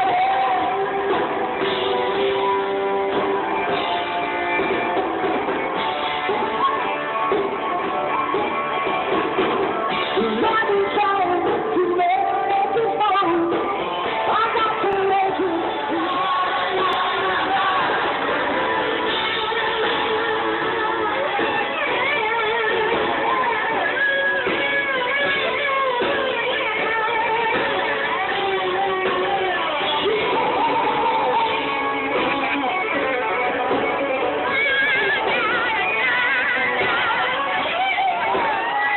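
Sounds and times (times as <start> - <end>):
electric guitar lead bending: 0.0 - 38.9
live rock band playing: 0.0 - 38.9.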